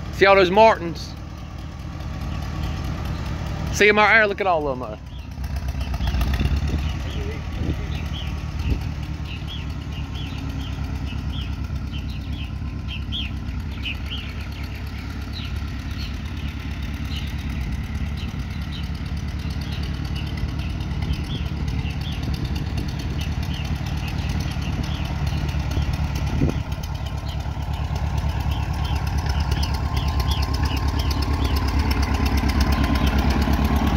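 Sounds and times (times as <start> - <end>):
birds chirping: 0.0 - 33.9
tractor engine running: 0.0 - 33.9.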